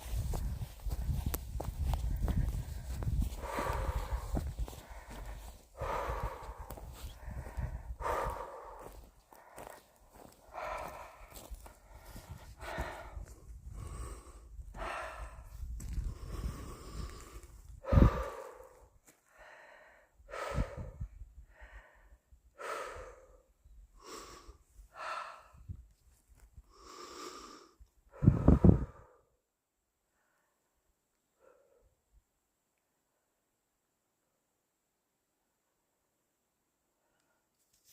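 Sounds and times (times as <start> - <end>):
person breathing heavily: 0.0 - 25.9, 26.6 - 29.5, 30.1 - 32.0.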